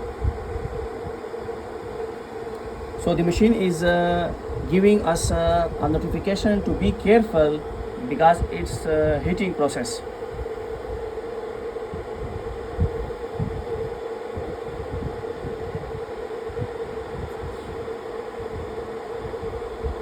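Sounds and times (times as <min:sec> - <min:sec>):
hot-air heater and blower hum: 0:00.0 - 0:20.0.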